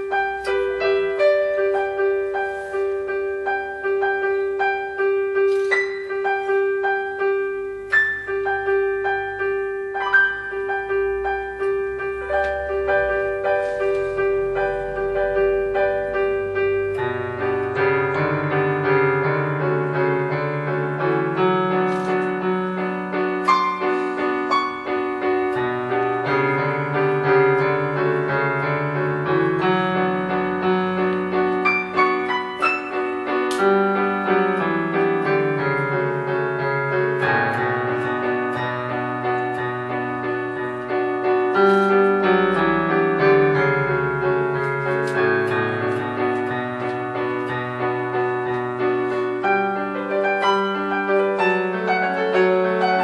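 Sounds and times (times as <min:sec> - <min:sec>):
electronic keyboard piano melody: 0:00.0 - 0:53.0.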